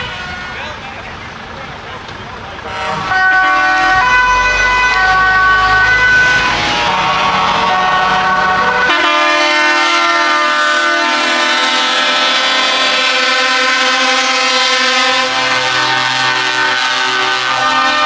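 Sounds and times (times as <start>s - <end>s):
truck air horns chord: 0.0s - 1.0s, 2.6s - 18.0s
deeper horn chord: 2.7s - 18.0s.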